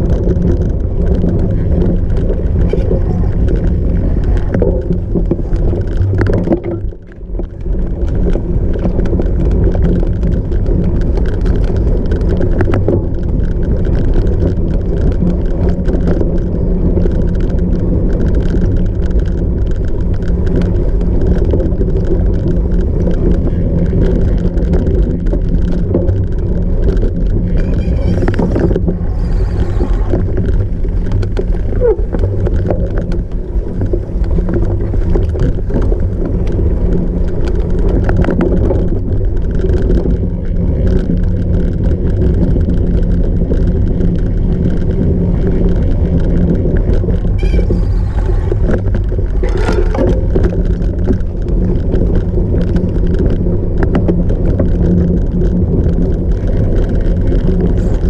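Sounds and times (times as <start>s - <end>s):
bike clicks and rattles: 0.0s - 58.0s
bike tyres rolling: 0.0s - 58.0s
wind rumble: 0.0s - 58.0s.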